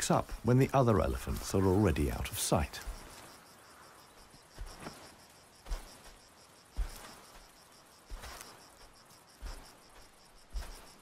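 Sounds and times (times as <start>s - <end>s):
elephant footsteps on dry ground: 0.0s - 11.0s
pulsing insect trill: 0.0s - 11.0s.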